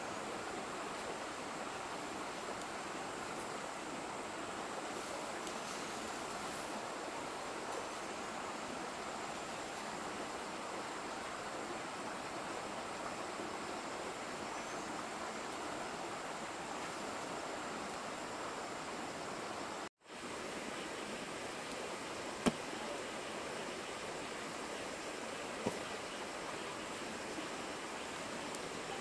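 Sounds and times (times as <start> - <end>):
rushing outdoor background noise: 0.0 - 29.0.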